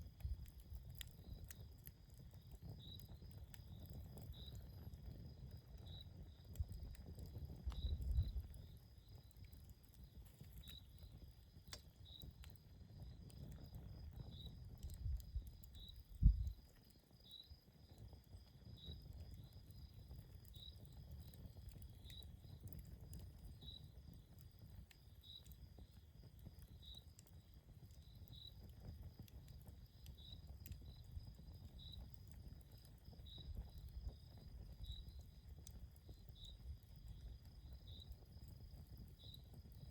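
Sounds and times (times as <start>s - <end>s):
campfire crackling: 0.0s - 39.9s
cricket chirping: 2.4s - 39.9s.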